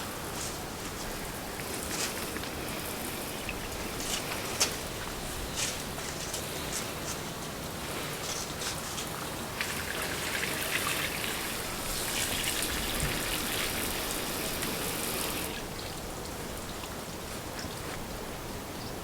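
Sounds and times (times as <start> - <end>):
rain pattering: 0.1 - 18.6.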